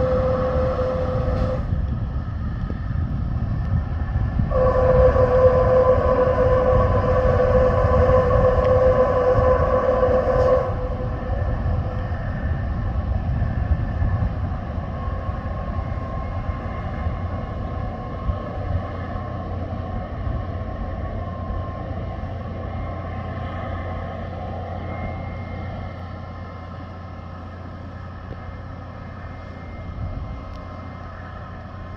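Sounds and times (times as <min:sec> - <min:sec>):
held humming tones: 0:00.0 - 0:31.9.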